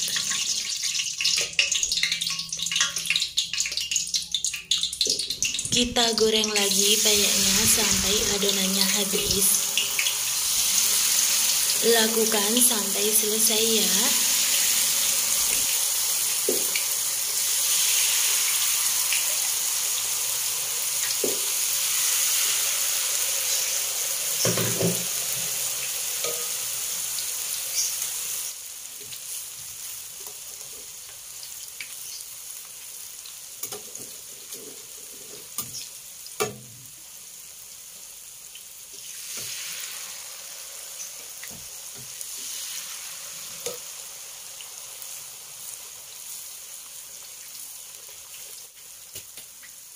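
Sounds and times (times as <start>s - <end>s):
batter sizzling in hot oil: 0.0s - 49.9s.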